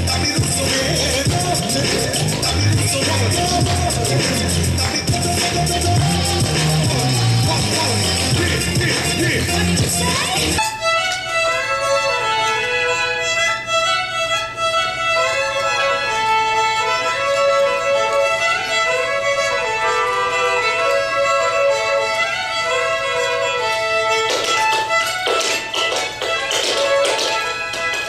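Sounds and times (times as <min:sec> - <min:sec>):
fiddle playing lively melody: 0:00.0 - 0:28.0.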